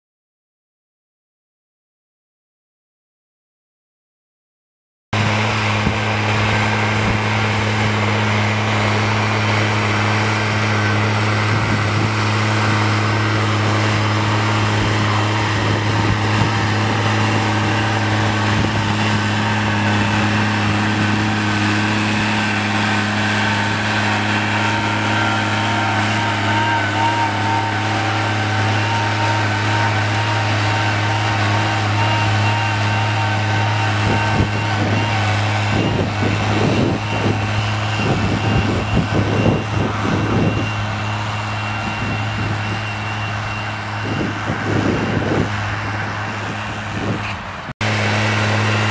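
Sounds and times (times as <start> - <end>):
tractor diesel engine under load: 5.1 - 48.9.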